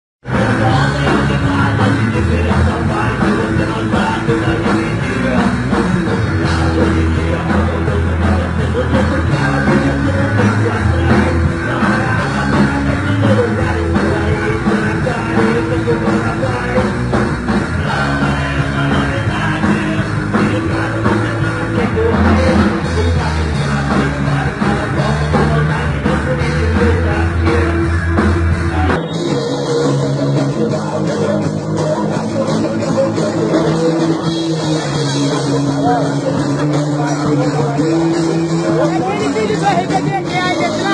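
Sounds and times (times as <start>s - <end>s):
bass: 0.2s - 40.9s
drum kit: 0.2s - 40.9s
guitar: 0.2s - 40.9s.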